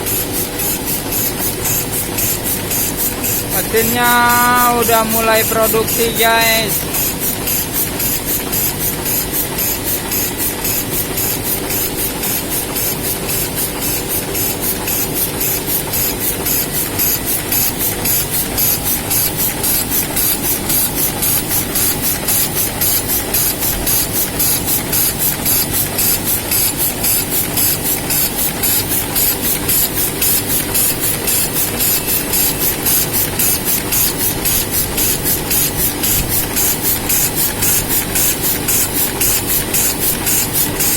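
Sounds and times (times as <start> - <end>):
printing press fast regular beat: 0.0 - 40.9.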